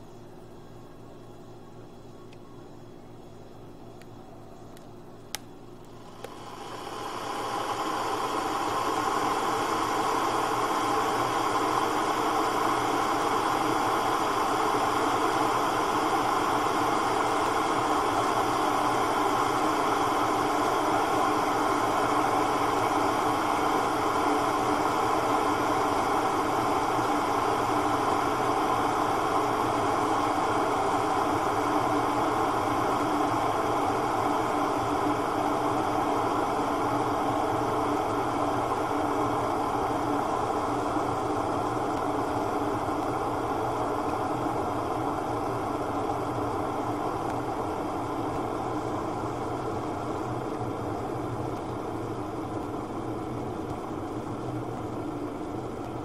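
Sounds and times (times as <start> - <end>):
kettle heating water: 0.0 - 56.0.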